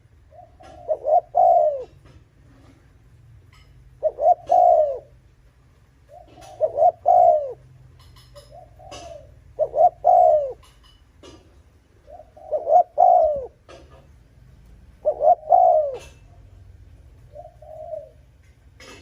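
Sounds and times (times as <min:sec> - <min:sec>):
dove cooing: 0:00.0 - 0:02.9, 0:03.6 - 0:14.2, 0:14.8 - 0:19.0.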